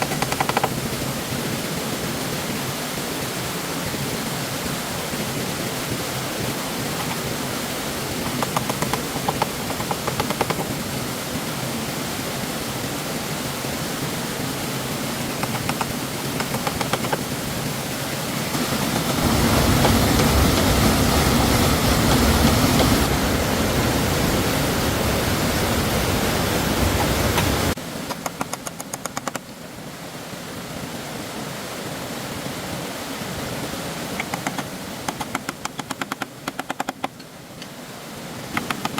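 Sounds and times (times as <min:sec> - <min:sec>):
flowing stream water: 0:00.0 - 0:38.9.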